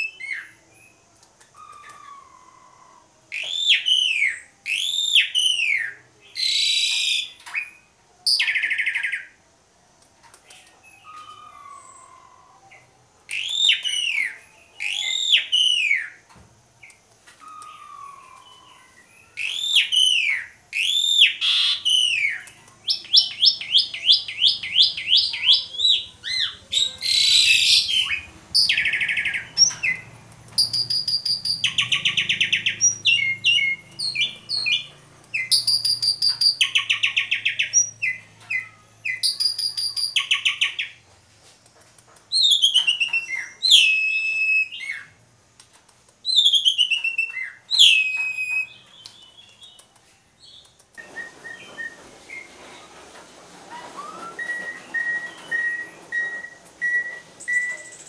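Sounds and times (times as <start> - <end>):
starling singing: 0.0 - 9.4, 10.5 - 16.2, 16.8 - 41.0, 42.3 - 45.2, 53.7 - 58.0.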